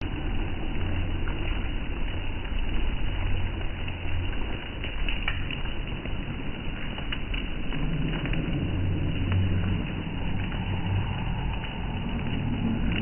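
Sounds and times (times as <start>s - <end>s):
low rumble: 0.0s - 13.0s
steady rain: 0.0s - 13.0s
faint ticks of drops: 0.9s - 13.0s.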